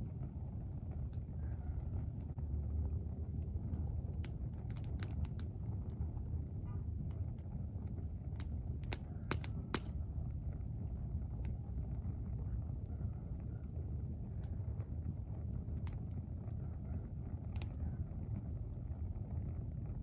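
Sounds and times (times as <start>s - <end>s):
campfire crackling and popping: 0.0s - 20.0s
low rumble: 0.0s - 20.0s.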